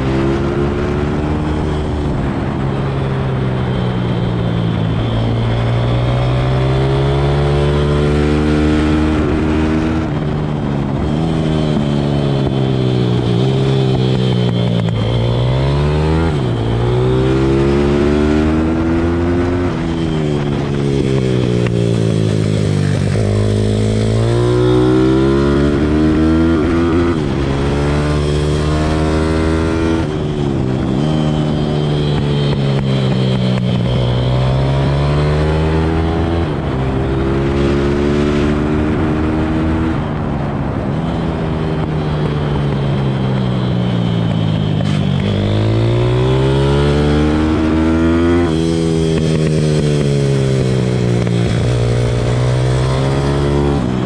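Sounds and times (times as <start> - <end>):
motorbike engine revving: 5.0 - 40.9, 41.9 - 54.0.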